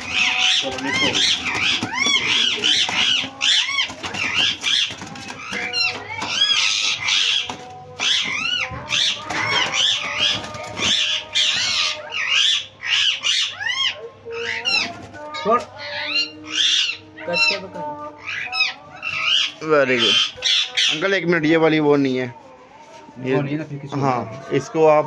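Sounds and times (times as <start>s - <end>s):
parakeets screeching: 0.0s - 22.5s.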